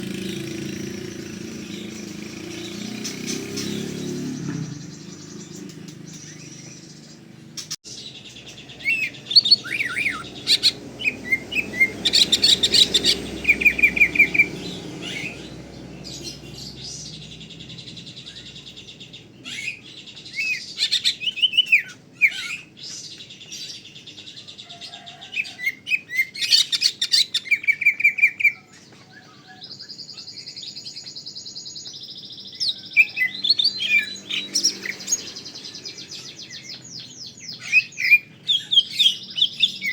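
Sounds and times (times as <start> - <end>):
bird whistles and trills: 7.6 - 39.9.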